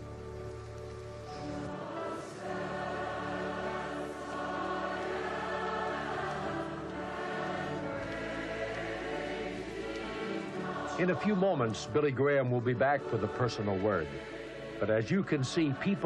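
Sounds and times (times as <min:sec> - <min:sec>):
choir singing a hymn: 0:01.2 - 0:16.0.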